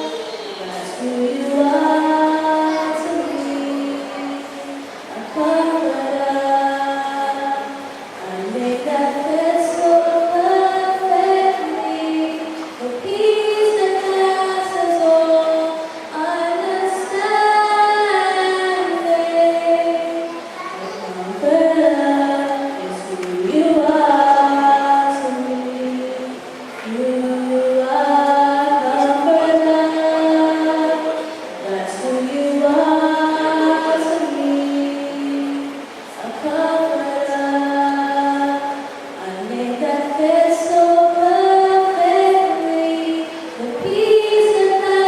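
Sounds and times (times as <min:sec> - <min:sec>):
high voice singing slowly: 0:00.0 - 0:45.0.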